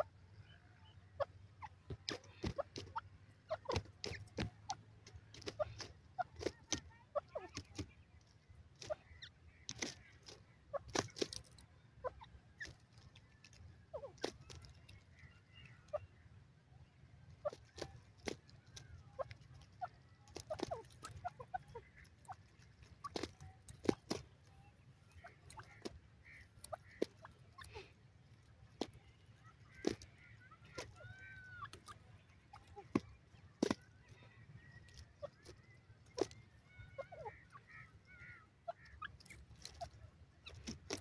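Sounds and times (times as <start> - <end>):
bird clucking softly: 0.0 - 41.0.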